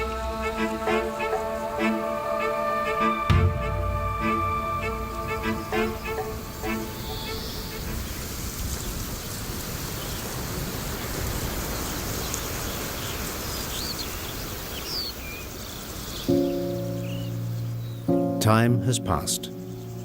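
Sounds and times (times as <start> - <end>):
noisy outdoor ambience: 0.0 - 20.0.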